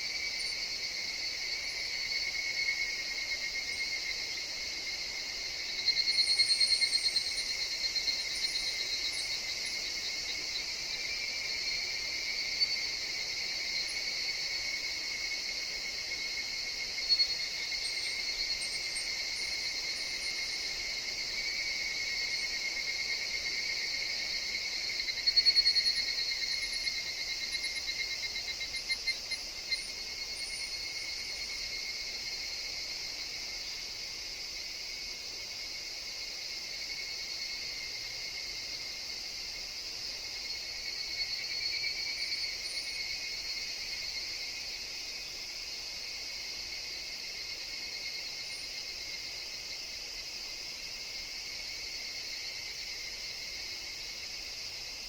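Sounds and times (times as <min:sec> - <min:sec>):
cicada chorus: 0:00.0 - 0:55.0
rapidly pulsing cicada call: 0:00.0 - 0:55.0.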